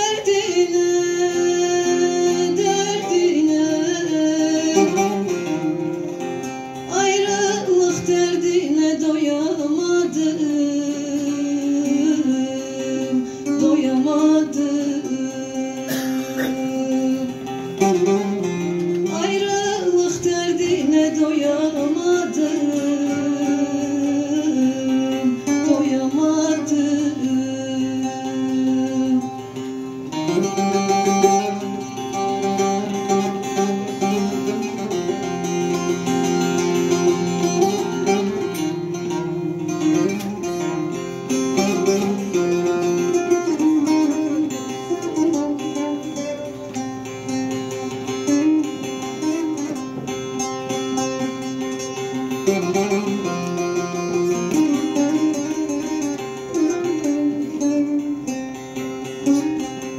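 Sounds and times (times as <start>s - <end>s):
long-necked lute folk melody: 0.0s - 59.9s.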